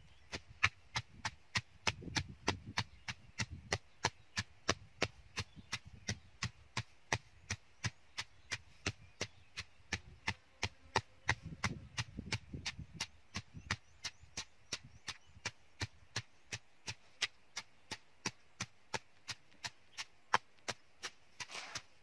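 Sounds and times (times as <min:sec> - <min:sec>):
stone pestle pounding in mortar: 0:00.1 - 0:21.5.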